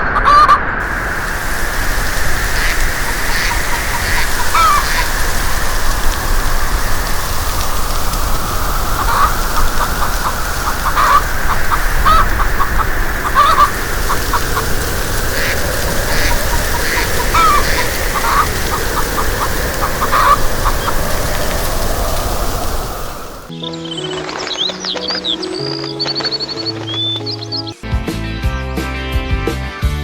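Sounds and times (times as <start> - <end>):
birds chirping and clucking: 0.1 - 27.8
background hiss: 0.8 - 23.5, 24.1 - 27.7.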